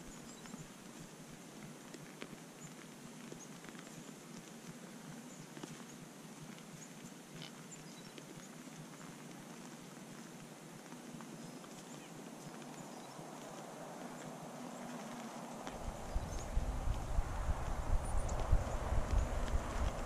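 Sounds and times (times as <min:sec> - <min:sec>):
crunches in snow: 0:00.0 - 0:20.0.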